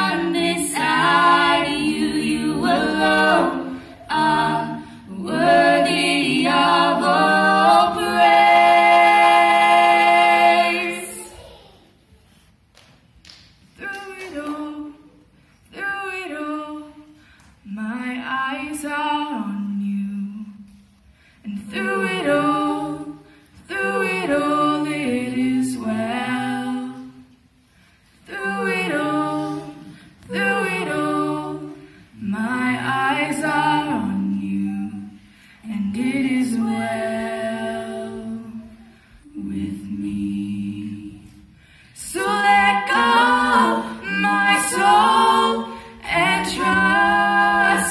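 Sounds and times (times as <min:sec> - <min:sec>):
a cappella group singing in harmony: 0:00.0 - 0:11.4, 0:13.7 - 0:47.9.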